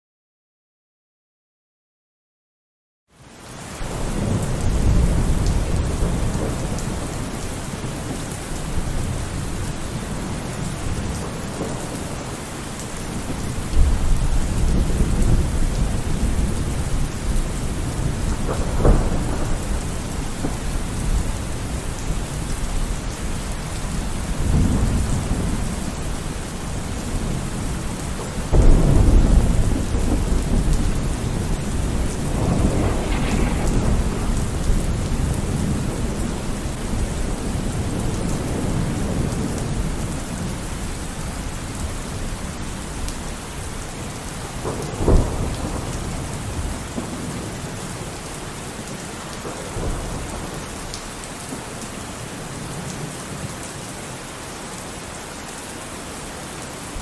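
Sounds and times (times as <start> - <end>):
steady rain falling: 3.1 - 57.0
thunder rumbling: 3.8 - 50.9.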